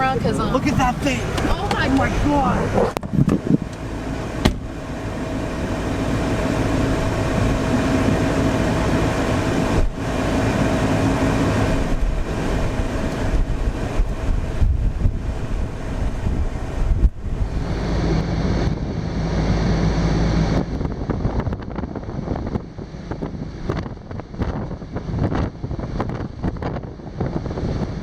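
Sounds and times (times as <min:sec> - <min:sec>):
car running with low hum: 0:00.0 - 0:28.0
wind buffeting microphone: 0:00.0 - 0:28.0.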